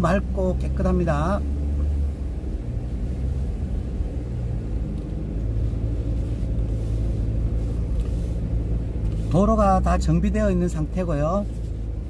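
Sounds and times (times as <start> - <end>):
car driving on paved road: 0.0 - 12.0.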